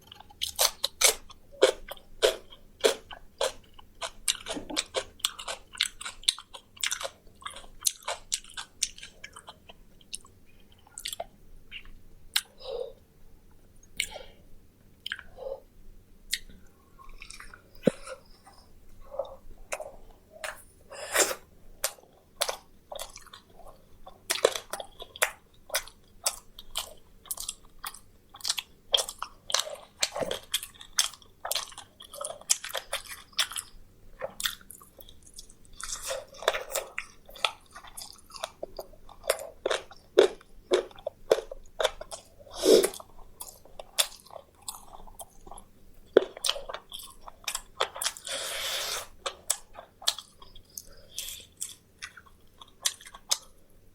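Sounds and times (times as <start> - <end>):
crunchy chewing: 0.0 - 12.5, 16.3 - 53.7.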